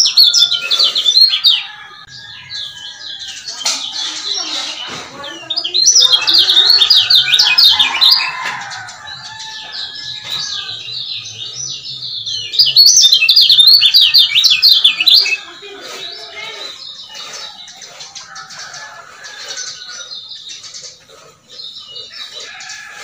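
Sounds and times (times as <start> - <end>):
bird chattering song: 0.0 - 23.0
soft bird calls: 0.0 - 23.0.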